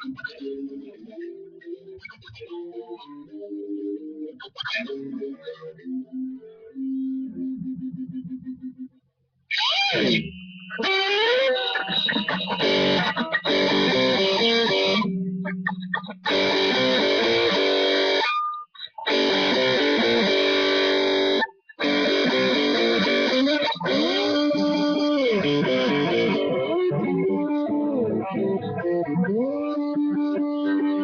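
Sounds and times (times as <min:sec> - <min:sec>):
electric guitar playing: 0:00.0 - 0:08.9, 0:09.5 - 0:31.0.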